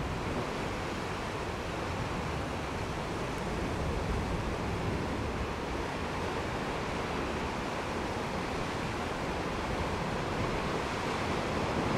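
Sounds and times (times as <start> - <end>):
ocean surf: 0.0 - 11.9
wind rumbling on microphone: 0.0 - 11.9.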